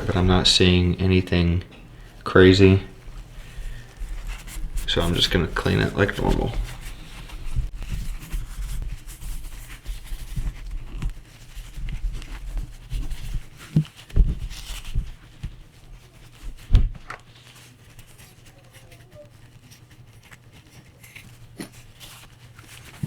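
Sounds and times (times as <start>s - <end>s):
scrubbing and handling noises: 0.0s - 23.0s.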